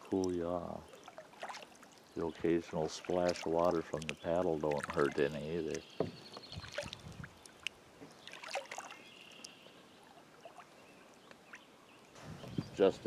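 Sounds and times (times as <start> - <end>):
kayak paddle splashing: 0.0 - 12.0.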